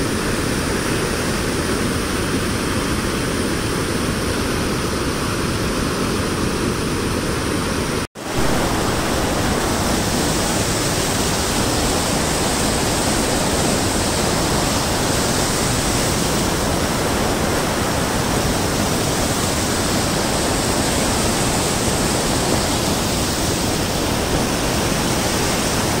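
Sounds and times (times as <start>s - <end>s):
floodwater rushing and churning: 0.0s - 26.0s.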